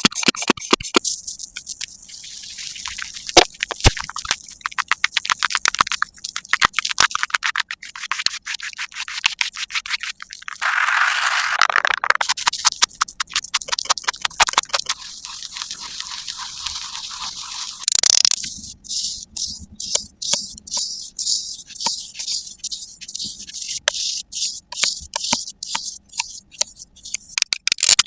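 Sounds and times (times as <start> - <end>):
sharp taps and clicks: 0.0 - 2.0, 2.7 - 10.6, 11.6 - 28.0.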